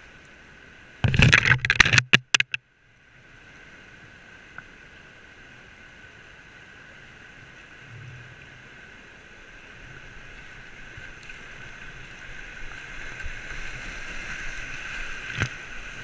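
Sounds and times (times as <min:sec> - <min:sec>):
rushing river water: 0:00.0 - 0:16.0.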